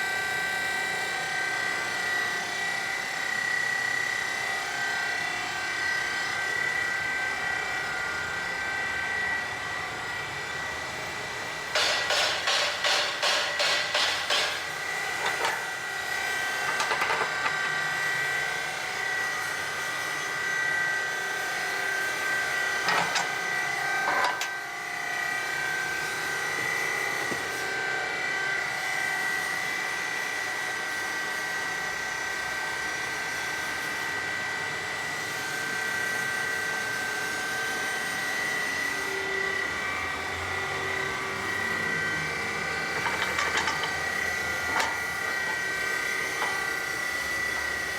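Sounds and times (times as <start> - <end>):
baling press machine whine: 0.0 - 47.9.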